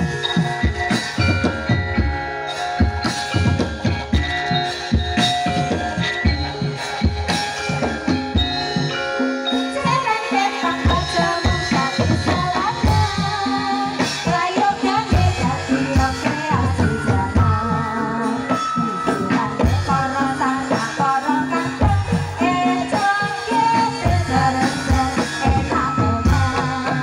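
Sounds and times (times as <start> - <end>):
driving drum pattern: 0.0 - 27.0
metallophones and gongs ringing: 0.0 - 27.0.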